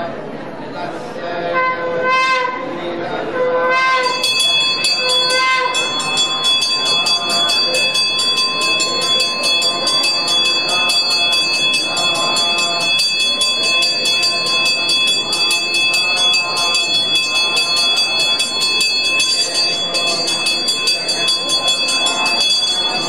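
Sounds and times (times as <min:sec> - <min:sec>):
hand bell rung rapidly: 0:04.0 - 0:23.0
voices chanting: 0:04.0 - 0:23.0.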